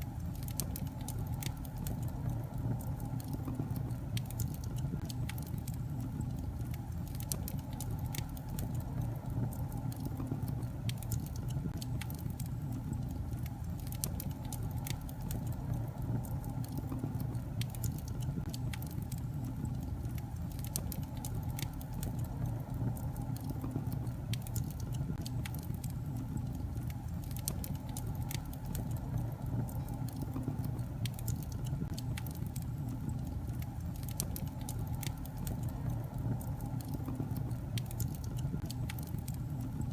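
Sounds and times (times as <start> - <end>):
flames rumbling: 0.0 - 39.9
logs crackling and popping: 0.0 - 39.9.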